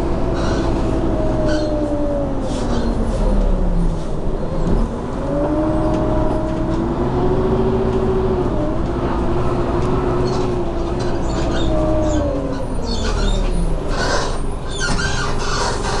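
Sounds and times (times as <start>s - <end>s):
bus drivetrain whine: 0.0s - 16.0s
bus engine rumble: 0.0s - 16.0s.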